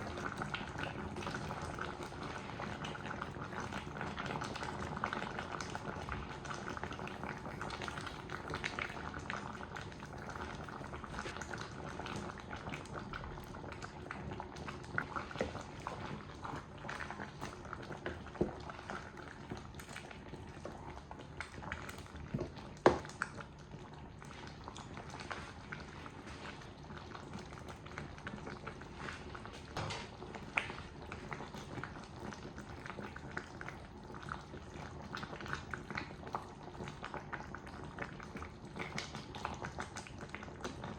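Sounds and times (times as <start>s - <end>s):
pot bubbling on the boil: 0.0s - 40.9s.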